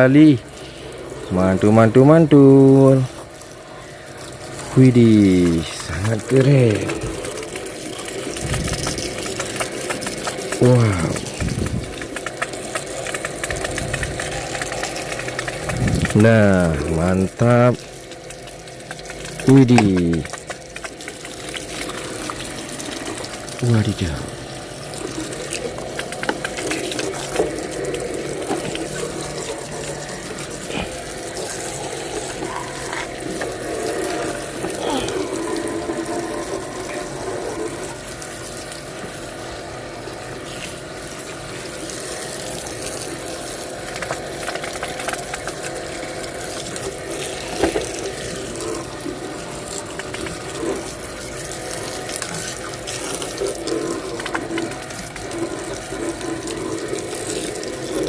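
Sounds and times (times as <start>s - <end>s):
water running from a tap: 0.0s - 58.0s.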